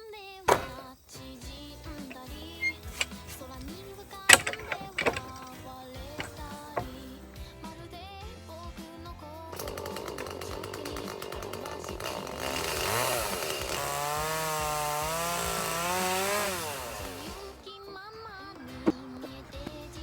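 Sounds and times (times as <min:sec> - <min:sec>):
chainsaw cutting wood: 0:00.5 - 0:07.7, 0:09.5 - 0:20.0.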